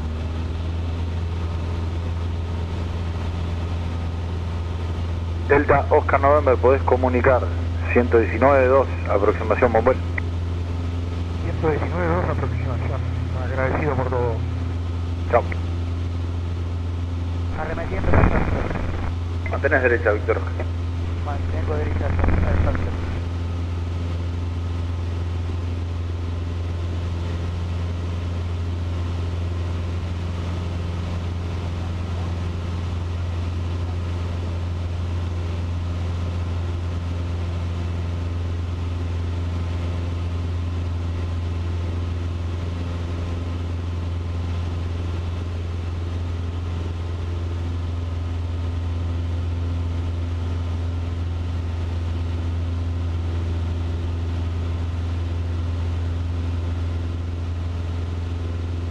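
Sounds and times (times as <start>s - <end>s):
small plane engine drone in cabin: 0.0s - 58.9s.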